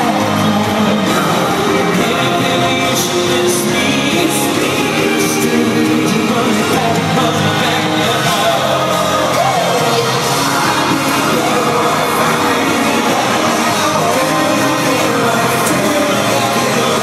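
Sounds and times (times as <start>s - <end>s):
crowd yelling along: 0.0s - 17.0s
live band with lead singer: 0.0s - 17.0s.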